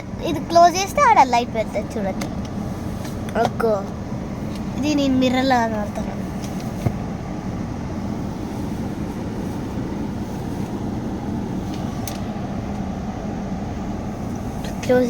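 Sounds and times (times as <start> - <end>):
car cabin hum and rumble: 0.0 - 15.0.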